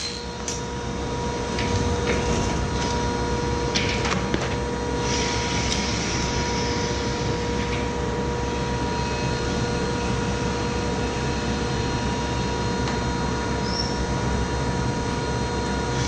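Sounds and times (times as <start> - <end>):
binding machine hum and whine: 0.0 - 16.0.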